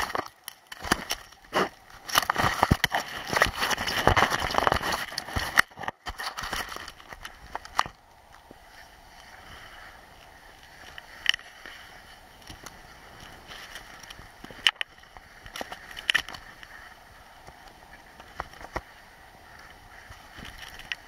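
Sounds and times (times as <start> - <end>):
skis scraping over snow: 0.0 - 7.6, 8.4 - 21.0.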